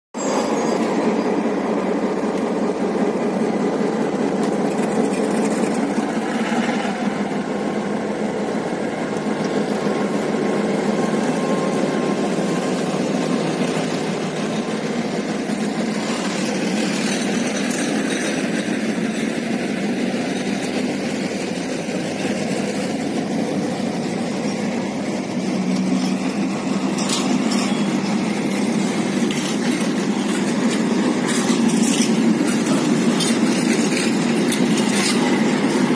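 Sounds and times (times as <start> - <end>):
diesel locomotive engine: 0.2 - 35.9
train rolling on rails: 0.2 - 35.9.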